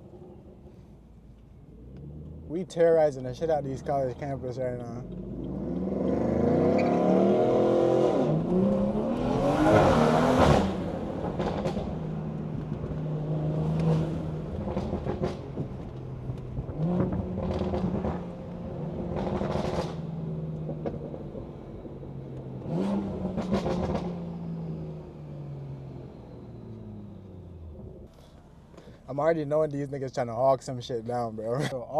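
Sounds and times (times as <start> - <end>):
car engine revving with loud exhaust: 0.0 - 28.4.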